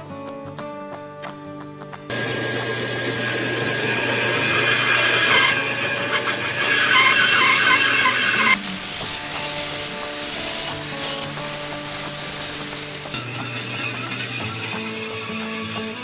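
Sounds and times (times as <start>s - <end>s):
bandsaw cutting wood: 2.1s - 16.0s.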